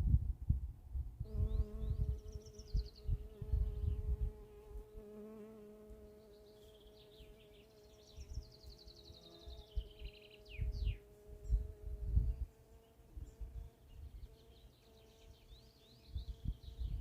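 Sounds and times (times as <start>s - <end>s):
insect buzzing: 1.2s - 17.0s
birds chirping and trilling: 1.3s - 17.0s.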